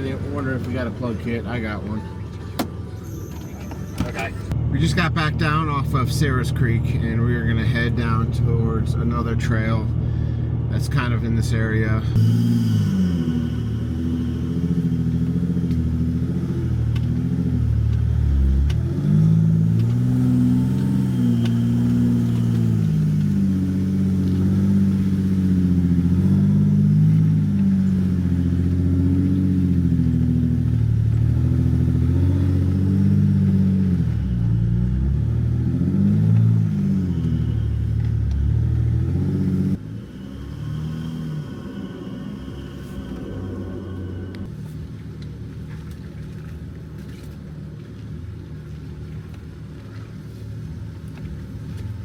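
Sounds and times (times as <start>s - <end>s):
diesel engine revving up and down: 0.0s - 3.2s, 3.8s - 52.0s.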